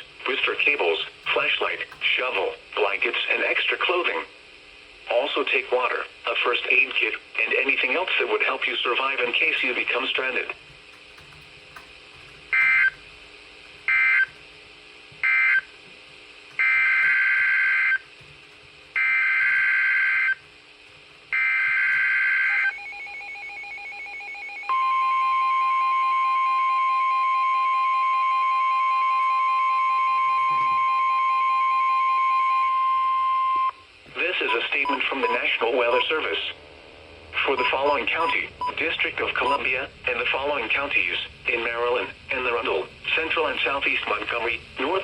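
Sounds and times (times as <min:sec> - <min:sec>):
steady warning alarm tone: 0:00.0 - 0:04.3, 0:07.8 - 0:36.3, 0:37.4 - 0:45.0.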